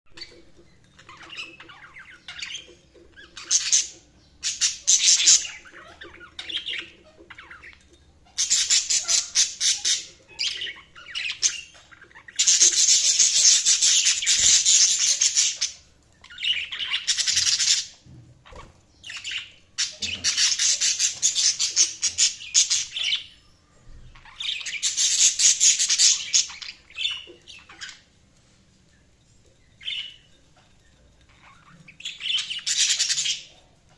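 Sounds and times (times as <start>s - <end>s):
budgies chirping and chattering: 0.1s - 33.9s.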